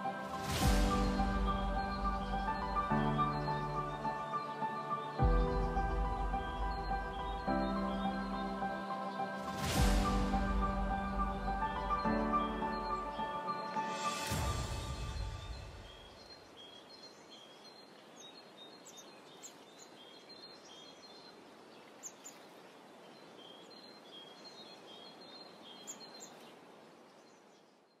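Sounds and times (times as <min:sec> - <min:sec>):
bird chirping: 0:00.0 - 0:22.5
background hiss: 0:00.0 - 0:27.9.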